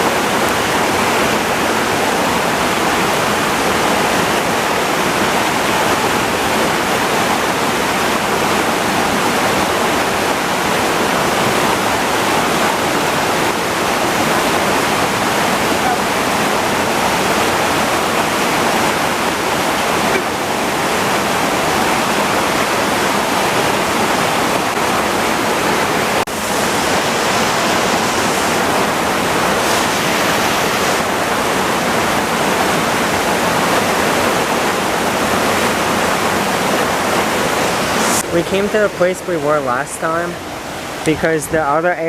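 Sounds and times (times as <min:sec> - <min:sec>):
waterfall roaring: 0:00.0 - 0:42.0.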